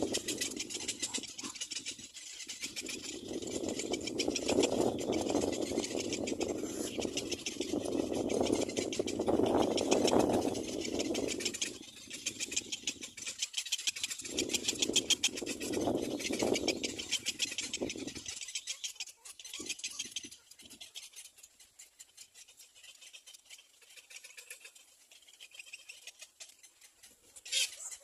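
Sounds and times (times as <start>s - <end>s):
birds high-pitched ticking chatter: 0.0s - 28.0s.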